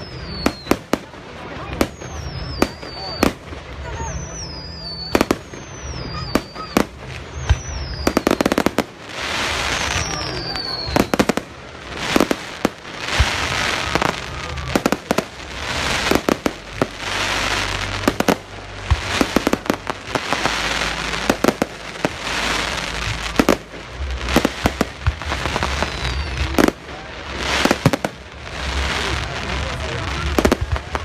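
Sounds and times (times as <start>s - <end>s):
firework bangs: 0.0s - 31.0s
firework crackling: 0.0s - 31.0s.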